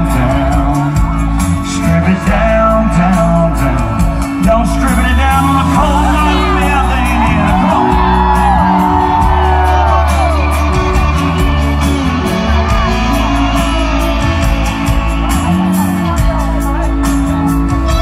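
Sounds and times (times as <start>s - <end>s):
song with singing and bass: 0.0s - 18.0s.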